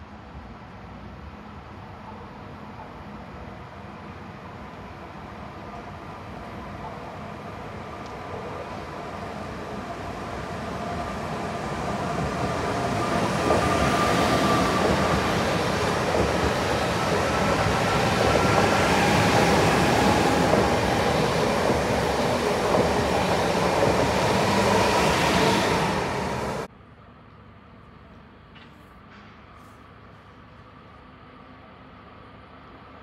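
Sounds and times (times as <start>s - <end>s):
train wheel and rail noise: 0.0s - 33.0s.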